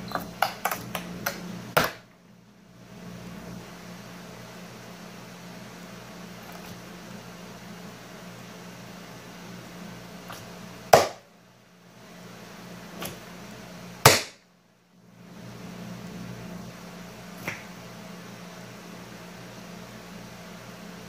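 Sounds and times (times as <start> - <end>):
background hum: 0.0 - 21.0.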